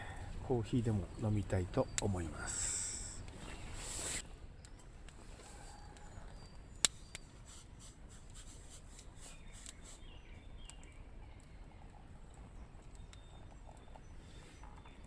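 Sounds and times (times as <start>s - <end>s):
faint bird chirps: 0.0s - 7.7s, 9.1s - 15.0s.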